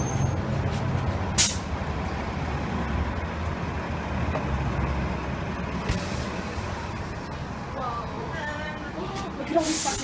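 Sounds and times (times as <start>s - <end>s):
low rumble of street traffic: 0.0s - 10.0s.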